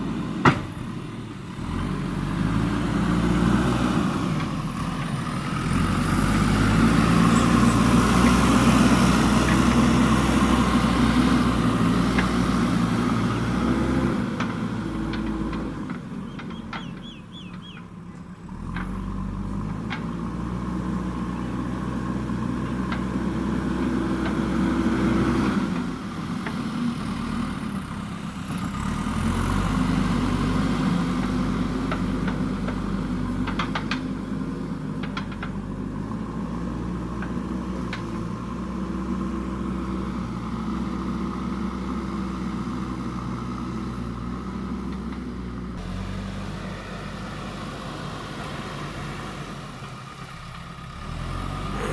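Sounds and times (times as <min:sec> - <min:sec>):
diesel engine revving under load: 0:00.0 - 0:17.8, 0:18.4 - 0:51.9.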